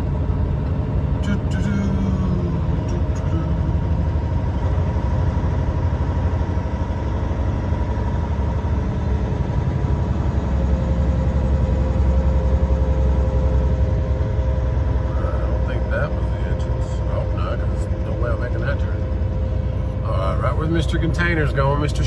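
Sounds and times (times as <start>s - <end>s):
truck diesel engine rumble: 0.0s - 22.0s.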